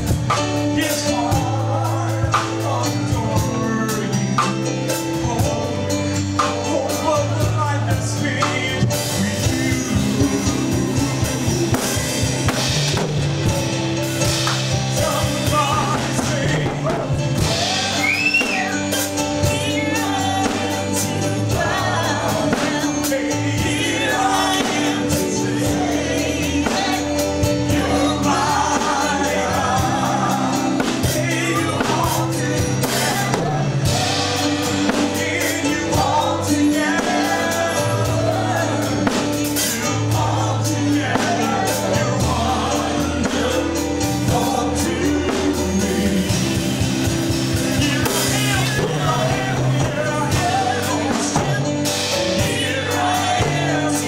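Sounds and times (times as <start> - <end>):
instrumental accompaniment: 0.0 - 54.0
voices singing gospel song: 0.0 - 54.0.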